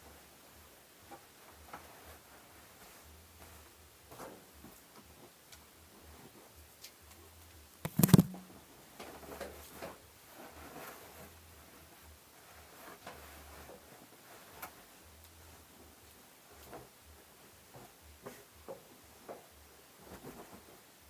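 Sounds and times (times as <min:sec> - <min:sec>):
rustling bedding: 0:00.1 - 0:06.6, 0:07.9 - 0:21.0.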